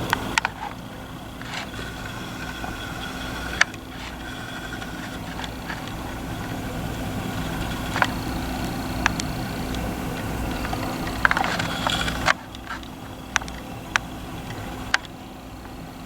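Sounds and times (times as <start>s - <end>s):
faint high whine: 0.0s - 16.0s
low mechanical hum: 0.0s - 16.0s.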